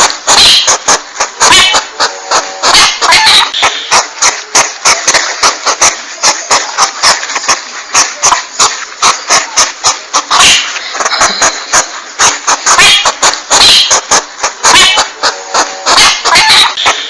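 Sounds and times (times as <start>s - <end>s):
porcupine calls: 0.0s - 17.0s.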